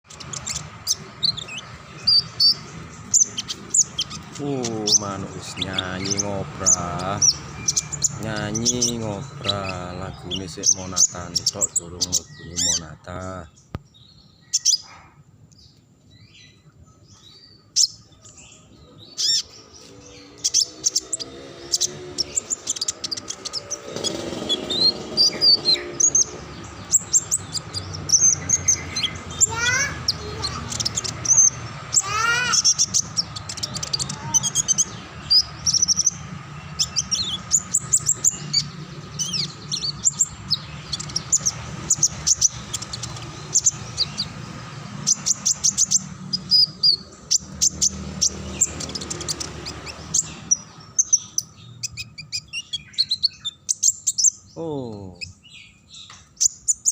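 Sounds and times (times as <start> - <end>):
songbird trilling and chirping: 0.0 - 56.9.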